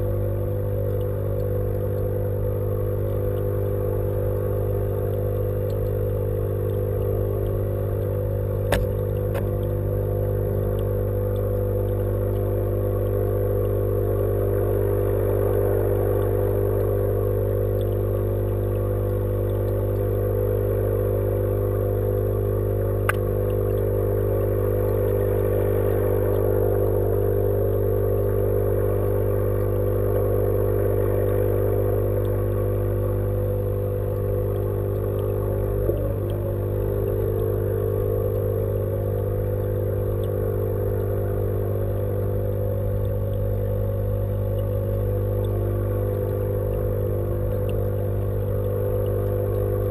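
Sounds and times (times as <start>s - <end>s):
electric mains hum: 0.0s - 49.9s.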